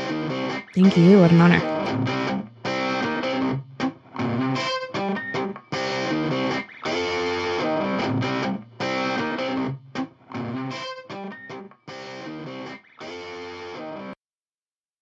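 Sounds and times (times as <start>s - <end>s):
stop-start guitar music: 0.0s - 14.2s.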